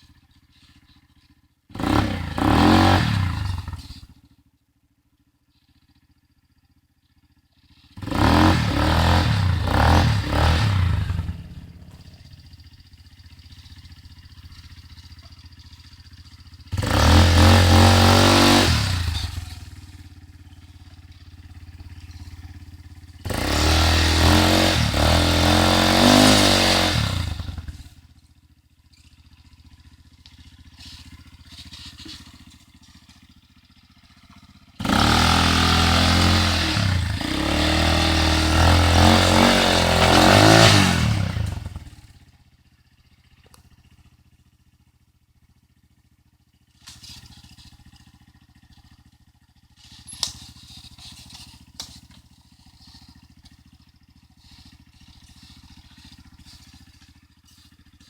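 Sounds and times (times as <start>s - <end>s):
atv engine revving: 0.0s - 4.2s, 7.7s - 28.2s, 28.9s - 42.3s, 46.7s - 58.0s.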